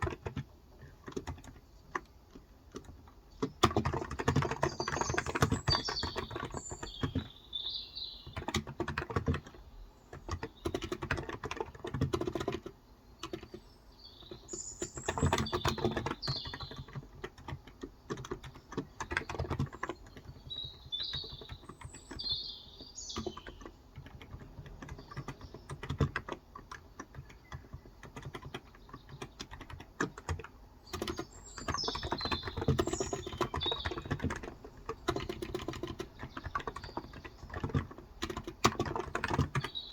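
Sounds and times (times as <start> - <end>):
keyboard typing: 0.0 - 7.4, 8.2 - 39.9
birds chirping: 1.2 - 39.9.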